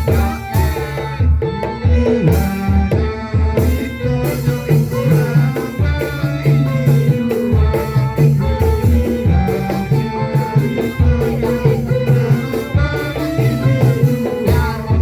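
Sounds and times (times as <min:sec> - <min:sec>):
bass line: 0:00.0 - 0:15.0
held instrument notes: 0:00.0 - 0:15.0
music with drums and percussion: 0:00.0 - 0:15.0.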